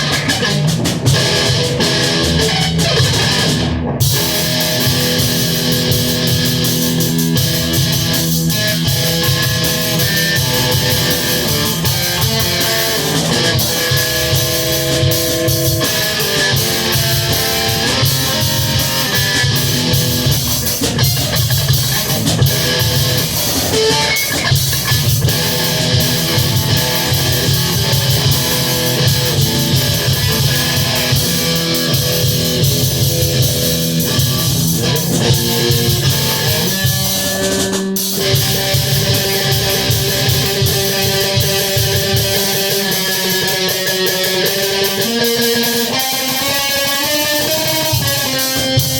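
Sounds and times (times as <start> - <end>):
drum beat: 0.0 - 48.9
electric guitar chords: 0.0 - 48.9.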